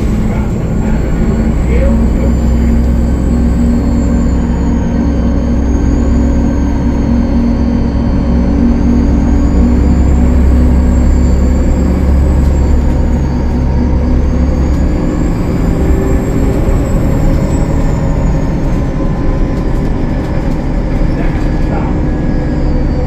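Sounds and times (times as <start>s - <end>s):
bus diesel engine under load: 0.0s - 23.0s.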